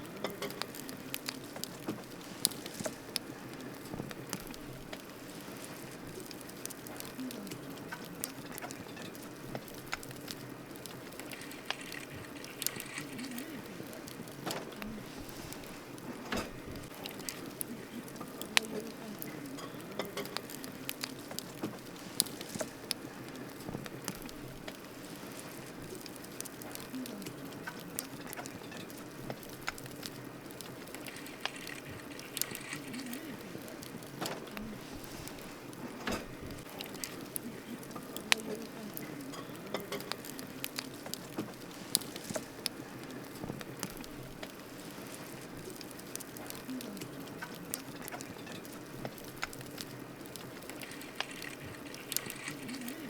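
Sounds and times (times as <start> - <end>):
campfire burning: 0.0 - 53.0
fire pops and crackles: 0.0 - 53.0.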